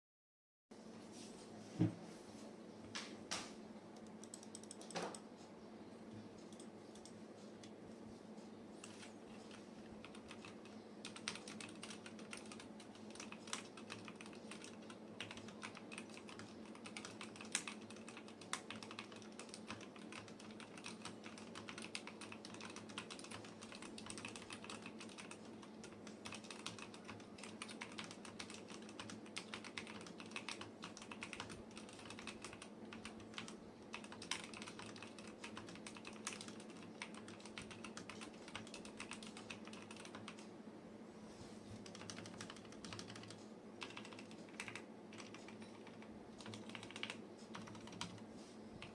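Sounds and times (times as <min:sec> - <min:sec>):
faint steady hum: 0:00.8 - 0:48.9
typing on mechanical keyboard: 0:04.0 - 0:05.2, 0:08.8 - 0:40.5, 0:41.8 - 0:48.2.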